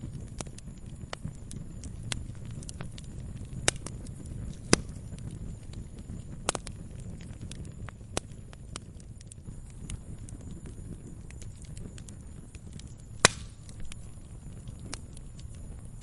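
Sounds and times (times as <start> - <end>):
low steady rumble: 0.0 - 16.0
sharp fire pops: 0.0 - 16.0
wood fire crackling: 0.0 - 16.0.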